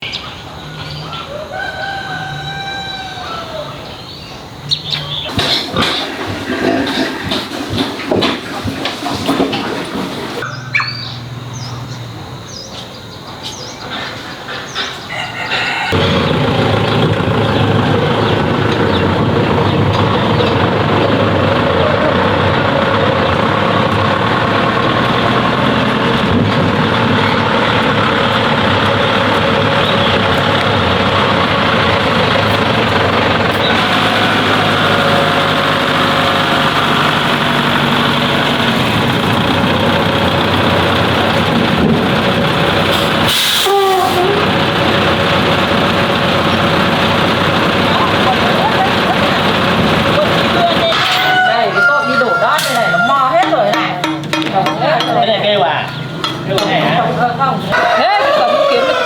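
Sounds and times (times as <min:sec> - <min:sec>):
heavy engine running: 0:04.5 - 0:12.4, 0:14.0 - 0:59.0.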